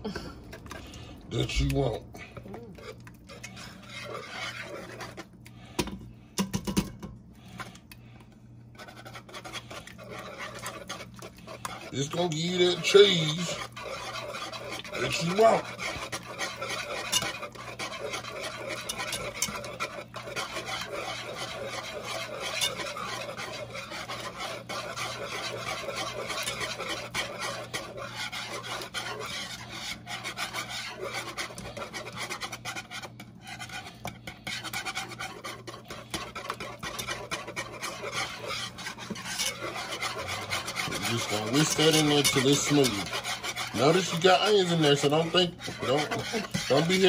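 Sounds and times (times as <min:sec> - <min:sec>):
whisk scraping metal pot: 0:00.0 - 0:47.0.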